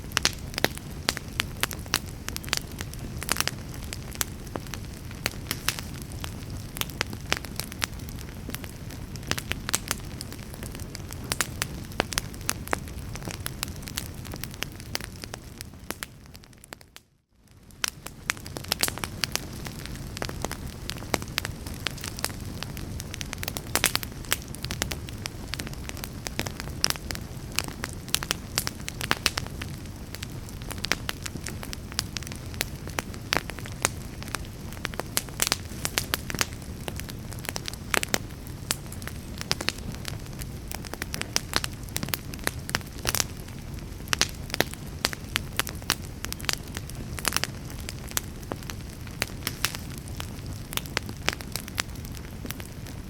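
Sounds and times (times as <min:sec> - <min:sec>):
fire crackling and popping: 0:00.0 - 0:53.0
low rumble of burning: 0:00.0 - 0:53.0.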